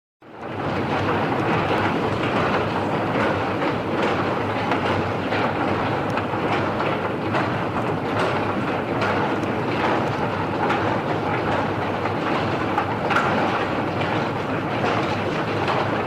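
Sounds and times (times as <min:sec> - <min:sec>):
rhythmic clacking of steps: 0:00.4 - 0:16.0.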